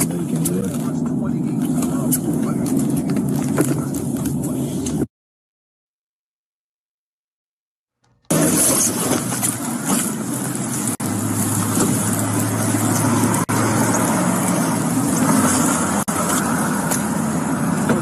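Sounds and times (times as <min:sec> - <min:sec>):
car engine and road noise: 0:00.0 - 0:05.1, 0:07.9 - 0:18.0.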